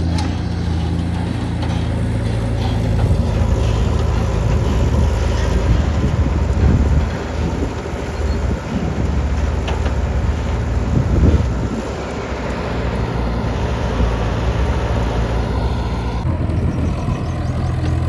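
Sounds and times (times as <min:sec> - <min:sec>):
diesel engine running: 0:00.0 - 0:18.0
heavy low rumbling: 0:00.0 - 0:18.0.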